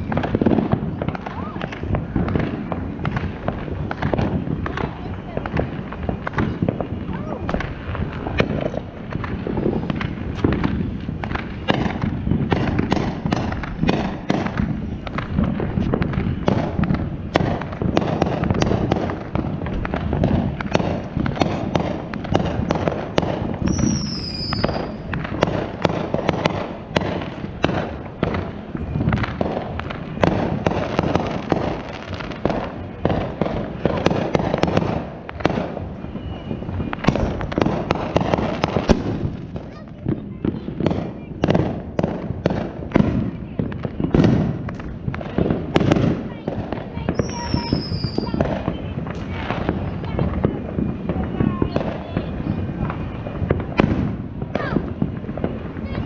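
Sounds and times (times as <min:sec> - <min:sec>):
firework whistle: 0:00.0 - 0:56.0
fireworks bangs and crackles: 0:00.0 - 0:56.0.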